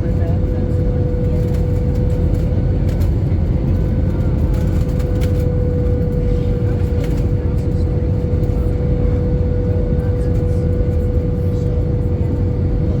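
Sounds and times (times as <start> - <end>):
airliner cabin engine rumble: 0.0 - 13.0
constant hum: 0.0 - 13.0.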